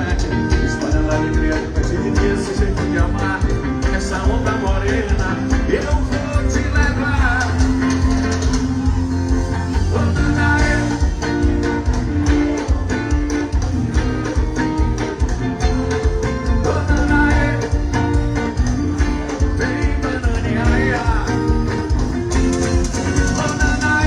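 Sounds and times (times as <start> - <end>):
person singing: 0.0 - 13.2, 15.6 - 24.0
electric guitar: 0.0 - 24.0
heavy bass: 0.0 - 24.0
live band playing over sound system: 0.0 - 24.0.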